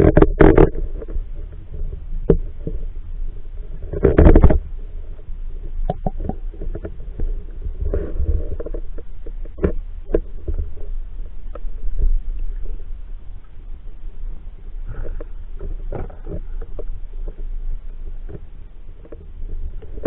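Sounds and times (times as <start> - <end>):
muffled underwater rumble: 0.0 - 20.0.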